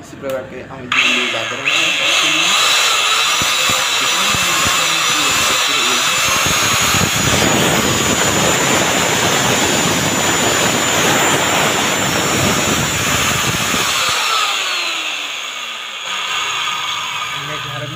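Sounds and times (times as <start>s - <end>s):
electric cutter motor whining: 0.9s - 17.9s
motor winding down: 0.9s - 17.9s.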